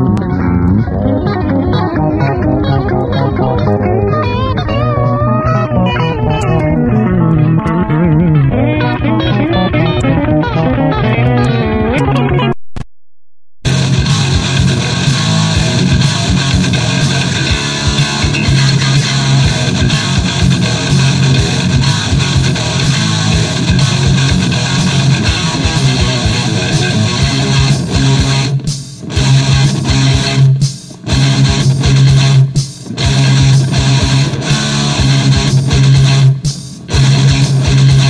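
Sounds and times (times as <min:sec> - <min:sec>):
guitar music: 0:00.0 - 0:12.6, 0:13.7 - 0:38.0.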